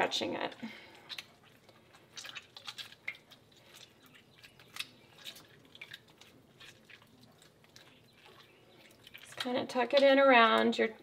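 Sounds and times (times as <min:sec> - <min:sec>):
water dripping: 0:00.0 - 0:11.0
wet squishes of cheese curd: 0:00.0 - 0:11.0.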